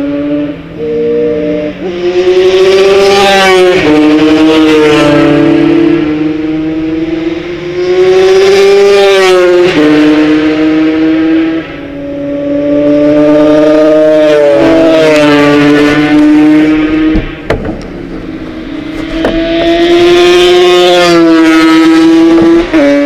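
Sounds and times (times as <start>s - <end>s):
racing motorcycles passing: 0.0s - 23.0s.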